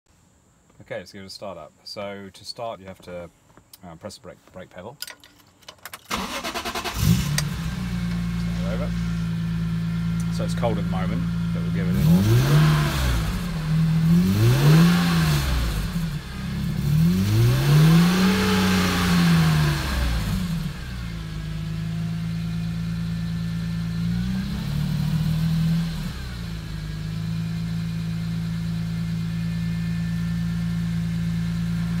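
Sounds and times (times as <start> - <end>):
car engine revving and idling: 6.1 - 32.0.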